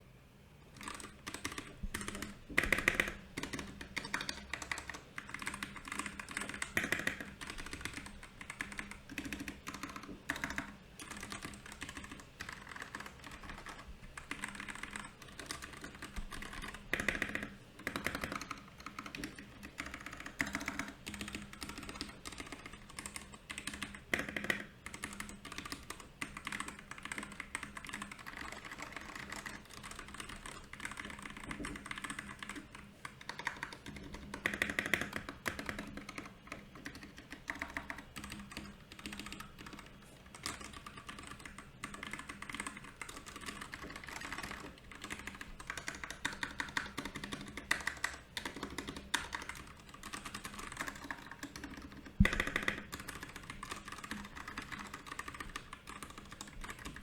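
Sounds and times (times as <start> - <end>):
mechanical keyboard typing: 0.8 - 57.0.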